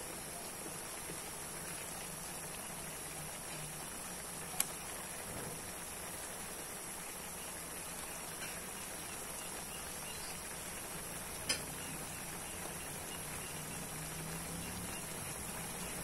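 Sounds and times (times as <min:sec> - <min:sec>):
broth simmering in a wok: 0:00.0 - 0:16.0.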